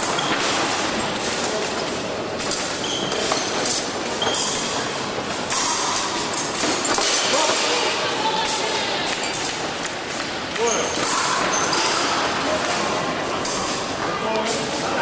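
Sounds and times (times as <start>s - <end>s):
fencing hall background noise: 0.0s - 15.0s.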